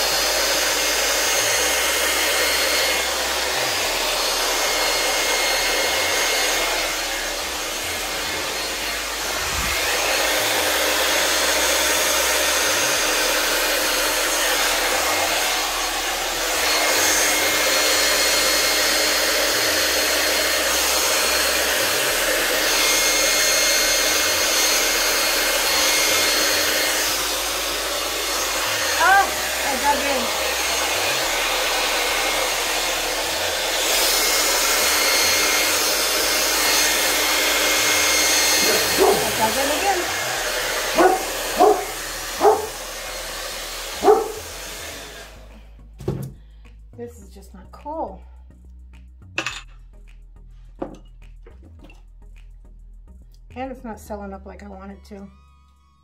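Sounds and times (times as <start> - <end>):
hair dryer blowing: 0.0 - 47.1.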